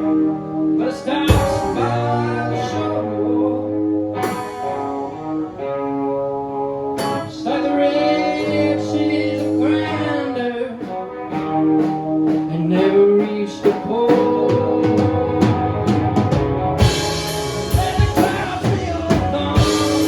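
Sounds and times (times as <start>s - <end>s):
guitar: 0.0s - 20.0s.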